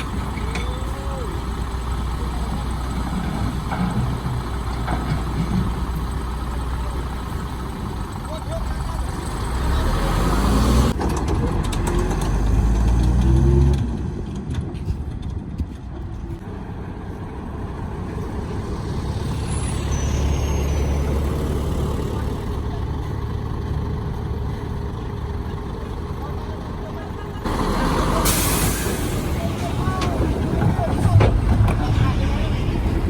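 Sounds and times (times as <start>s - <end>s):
diesel truck engine revving: 0.0s - 14.2s, 16.4s - 33.0s.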